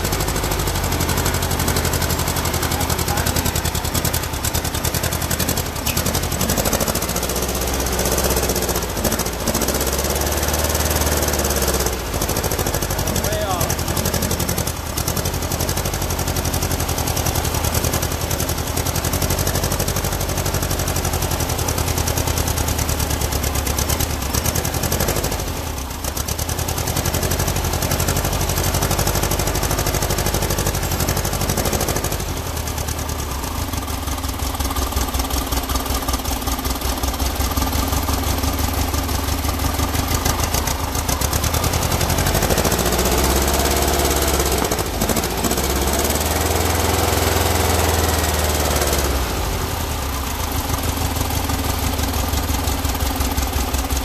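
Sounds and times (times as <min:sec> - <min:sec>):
engine running unevenly: 0:00.0 - 0:54.0.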